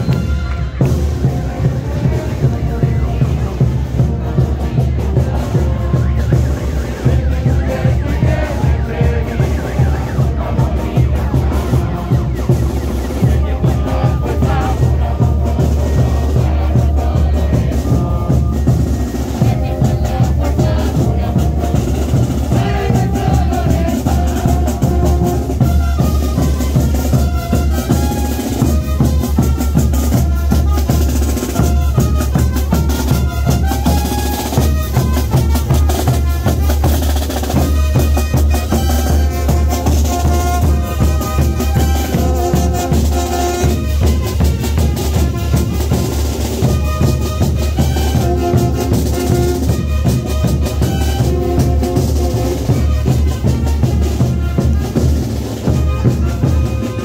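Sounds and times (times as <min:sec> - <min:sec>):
band playing dance music: 0:00.0 - 0:57.0
bass drum and snare beat: 0:00.0 - 0:57.0.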